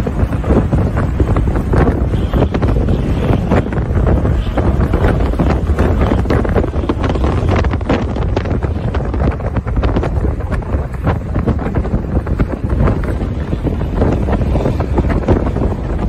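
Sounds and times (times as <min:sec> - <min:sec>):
road and engine rumble: 0:00.0 - 0:16.0
wind buffeting microphone: 0:00.0 - 0:16.0.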